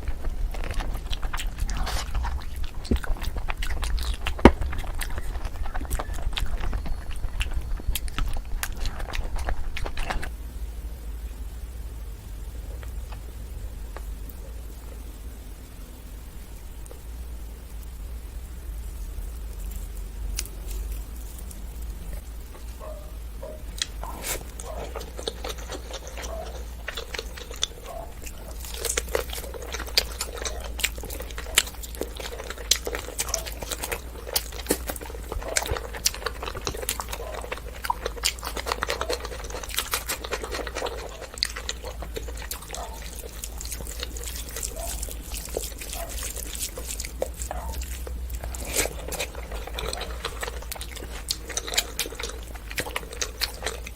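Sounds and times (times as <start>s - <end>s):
person chewing food: 0.0s - 10.3s, 19.6s - 53.9s.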